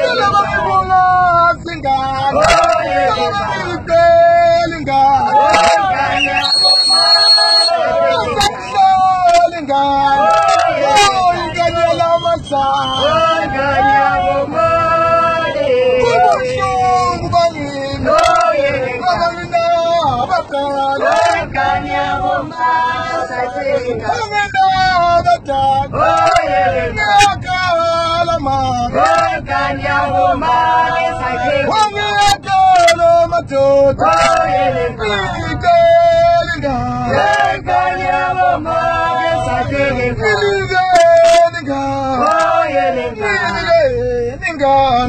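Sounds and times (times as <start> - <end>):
minibus engine and road rumble: 0.0 - 45.0
voices singing: 0.0 - 45.0.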